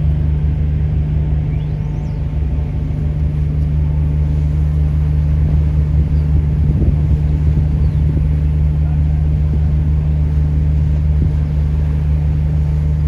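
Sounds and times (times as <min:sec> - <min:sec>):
ferry engine droning: 0:00.0 - 0:13.0.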